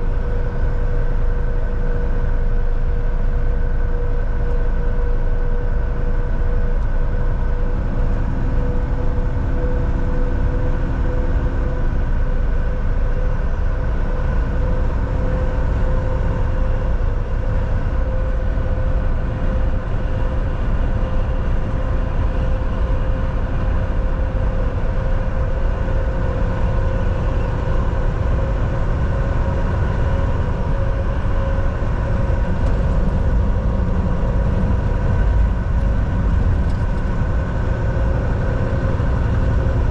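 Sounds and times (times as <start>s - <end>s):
constant whine: 0.0s - 39.9s
truck engine and road rumble: 0.0s - 39.9s.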